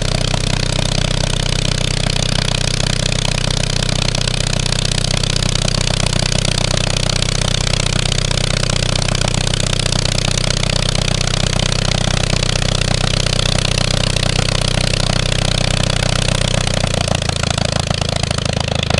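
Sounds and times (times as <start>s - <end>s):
propeller plane engine running: 0.0s - 18.9s.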